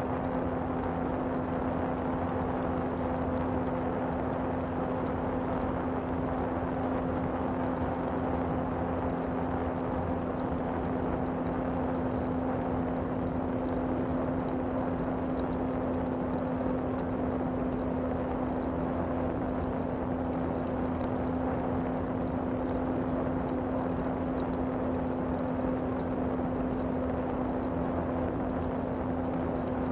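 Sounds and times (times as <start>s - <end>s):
constant low hum: 0.0s - 29.9s.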